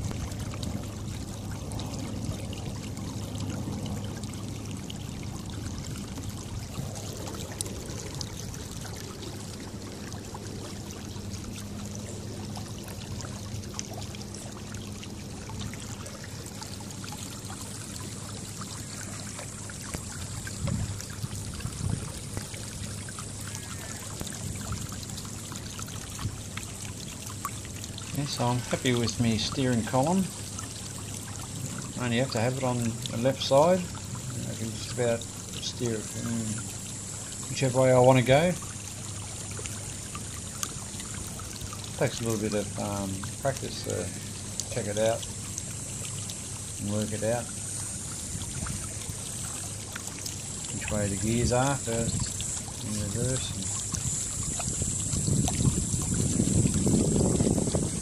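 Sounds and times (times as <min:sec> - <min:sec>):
low motor hum: 0:00.0 - 0:58.0
water rushing along a hull: 0:00.0 - 0:58.0.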